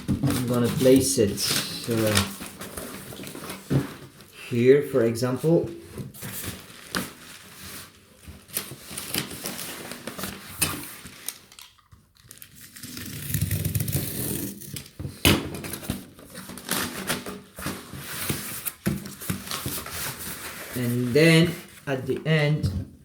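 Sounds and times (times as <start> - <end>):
cardboard rustling and scraping: 0.0 - 4.3, 5.8 - 11.3, 13.1 - 22.9.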